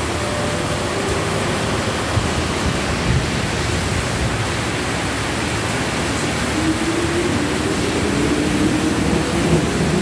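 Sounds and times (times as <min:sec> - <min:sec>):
electric train rumbling: 0:00.0 - 0:10.0
heavy rain pouring: 0:00.0 - 0:10.0.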